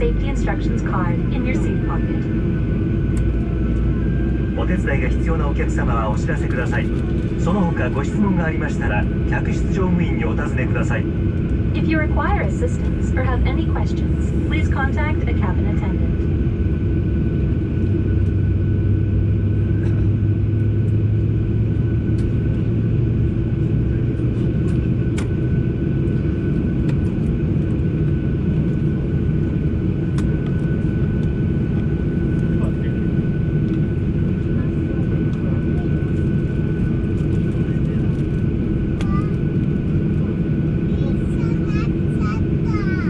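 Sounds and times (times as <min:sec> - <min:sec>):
jet engine drone in cabin: 0:00.0 - 0:43.0.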